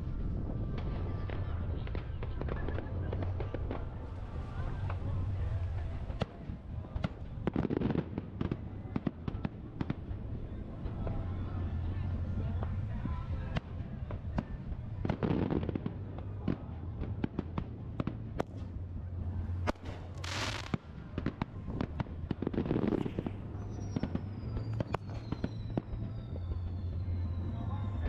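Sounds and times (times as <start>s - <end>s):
deep fireworks booms: 0.0s - 28.0s
fireworks crackling: 0.0s - 28.0s
fireworks bursting with bangs: 0.1s - 28.0s.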